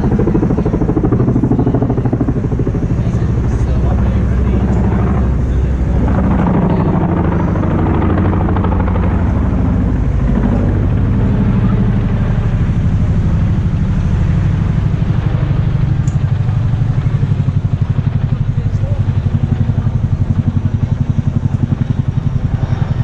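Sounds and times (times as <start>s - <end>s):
large engine rumbling: 0.0s - 23.0s.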